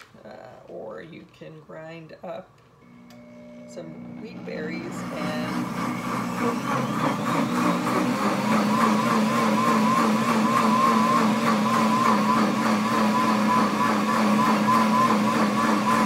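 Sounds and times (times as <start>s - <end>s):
blender motor hum and whine: 2.8s - 16.0s.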